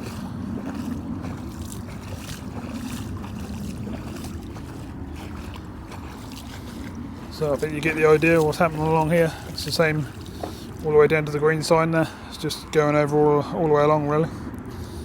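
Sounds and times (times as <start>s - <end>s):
flood water spilling: 0.0s - 12.7s
wind buffeting microphone: 0.0s - 15.0s.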